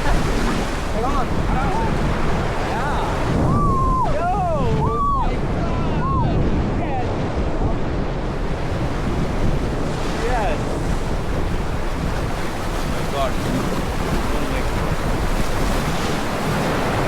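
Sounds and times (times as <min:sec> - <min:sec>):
rushing river water: 0:00.0 - 0:06.2, 0:07.0 - 0:17.0
wind buffeting microphone: 0:00.0 - 0:17.0.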